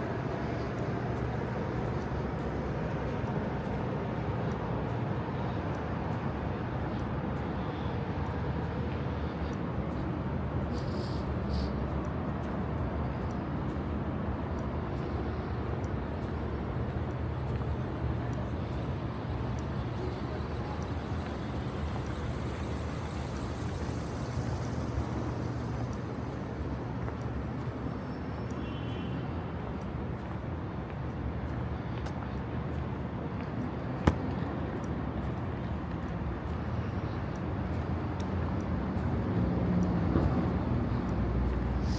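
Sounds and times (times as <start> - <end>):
traffic rumble: 0.0 - 41.9.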